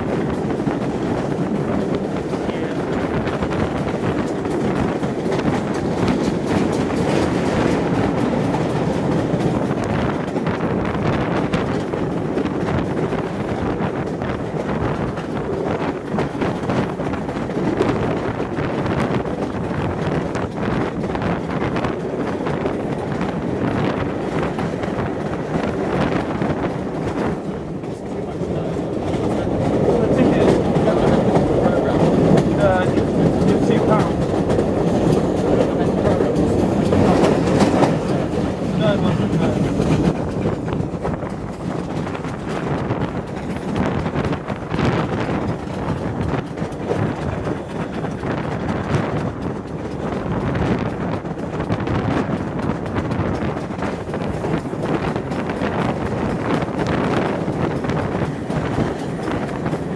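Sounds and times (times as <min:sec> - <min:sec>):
train coaches rumbling on track: 0:00.0 - 0:59.9
wind buffeting microphone: 0:00.0 - 0:59.9.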